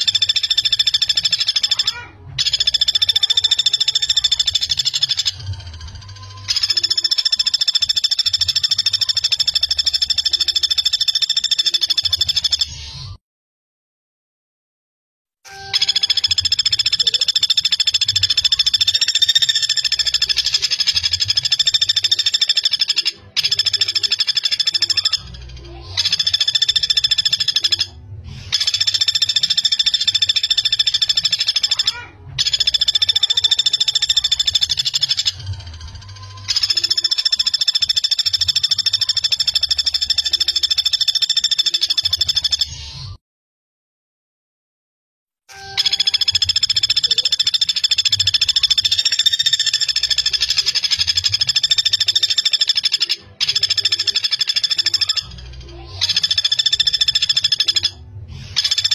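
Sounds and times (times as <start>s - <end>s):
woodpecker trilling rattles: 0.0s - 12.8s, 15.6s - 42.8s, 45.7s - 58.9s.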